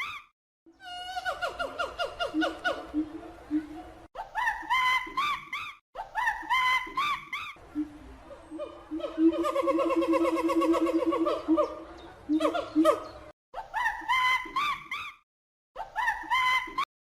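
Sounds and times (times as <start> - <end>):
laugh-like animal calls: 0.8 - 15.2.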